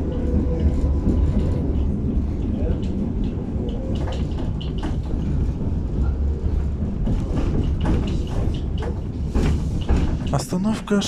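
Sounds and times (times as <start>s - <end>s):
wheels clicking on rails: 0.0s - 10.7s
tram rumbling along track: 0.0s - 11.0s.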